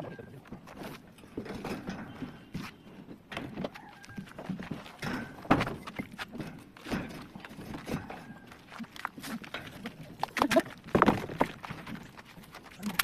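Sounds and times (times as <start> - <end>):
knocks and clatter of building work: 0.0 - 13.0.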